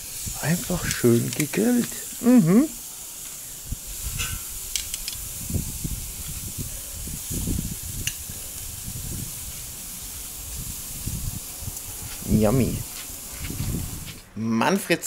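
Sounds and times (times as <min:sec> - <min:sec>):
steaks sizzling on grill: 0:00.0 - 0:14.3.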